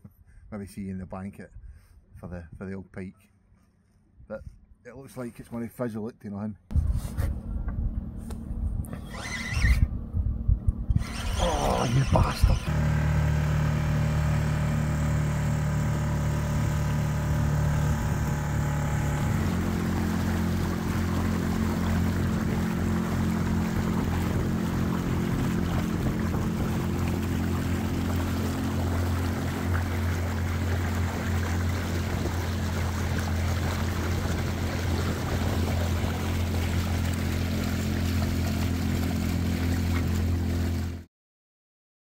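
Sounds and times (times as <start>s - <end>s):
wind: 0.0s - 41.1s
boat motor humming: 6.7s - 41.1s
water noise: 6.7s - 41.1s.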